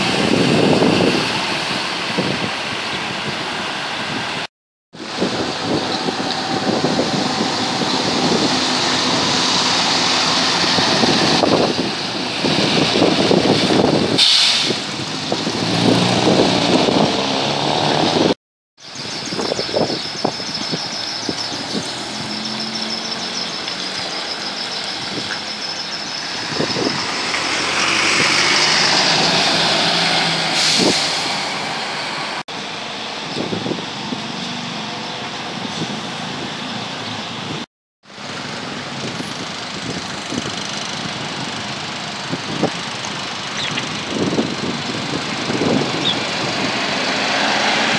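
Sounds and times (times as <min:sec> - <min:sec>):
bus diesel engines: 0:00.0 - 0:47.9
tyre noise on wet pavement: 0:00.0 - 0:47.9.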